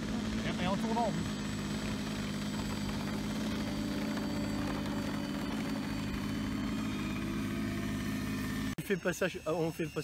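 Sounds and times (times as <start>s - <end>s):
model seaplane engine running: 0.0s - 10.0s.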